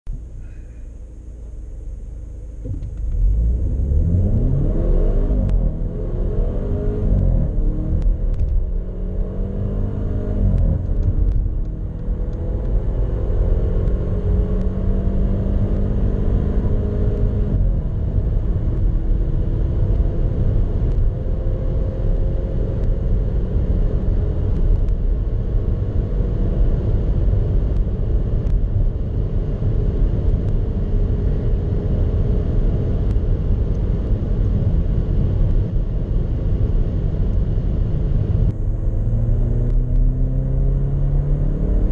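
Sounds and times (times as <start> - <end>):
car engine accelerating: 0.1 - 41.9
road and wind noise: 0.1 - 41.9.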